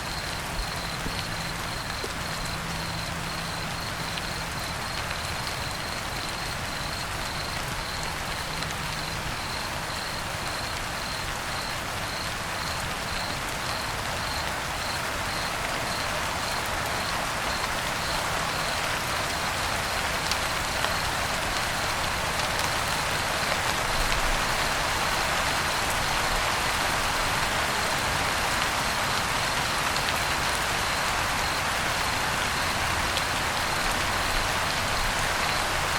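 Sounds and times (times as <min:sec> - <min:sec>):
cricket chirping: 0:00.0 - 0:23.1, 0:29.6 - 0:35.9
steady rain: 0:00.0 - 0:35.9.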